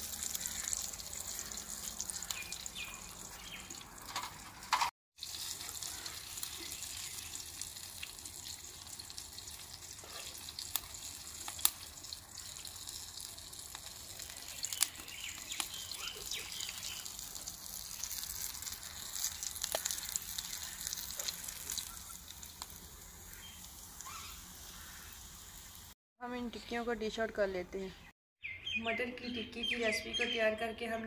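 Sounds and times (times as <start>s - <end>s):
patties sizzling in hot oil: 0.0s - 26.0s.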